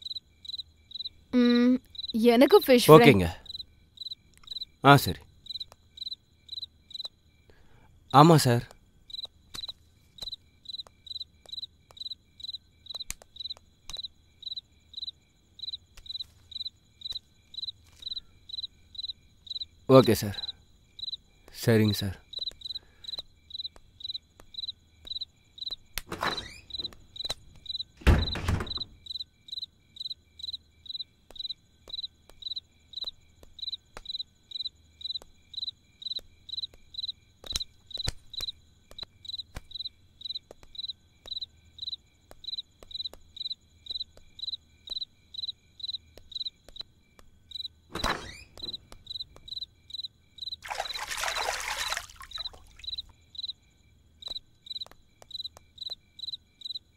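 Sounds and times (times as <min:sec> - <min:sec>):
cricket chirping: 0:00.0 - 0:56.9.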